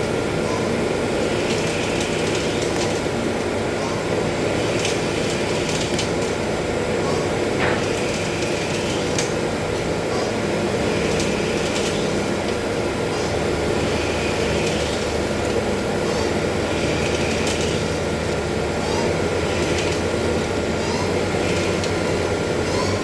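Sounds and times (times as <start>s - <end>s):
lathe humming with hiss: 0.0s - 23.0s.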